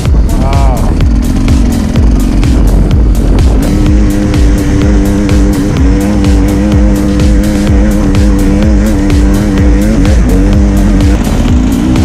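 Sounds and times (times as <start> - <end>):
dirt bike engine running: 0.0 - 12.0
music with fast beat: 0.0 - 12.0.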